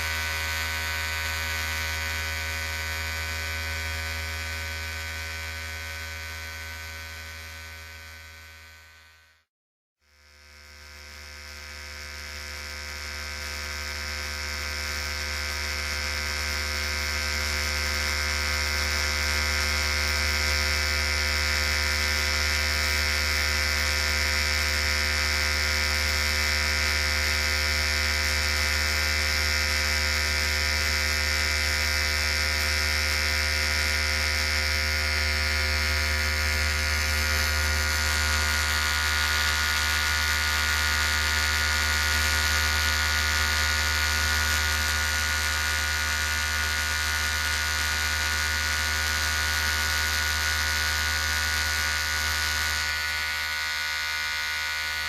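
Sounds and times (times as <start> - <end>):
electric hair clipper buzzing: 0.0 - 9.4, 10.1 - 55.0.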